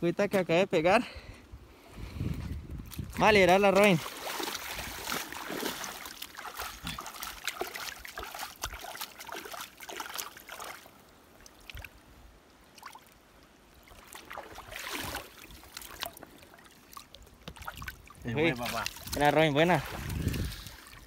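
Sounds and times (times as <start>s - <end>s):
water trickling and lapping: 1.2s - 21.0s
splashing through shallow water: 2.8s - 21.0s.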